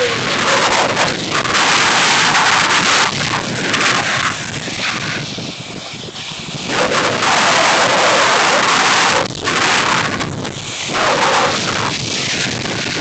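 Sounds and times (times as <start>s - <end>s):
snowboard scraping over snow: 0.0s - 13.0s
wind buffeting a microphone: 0.0s - 13.0s.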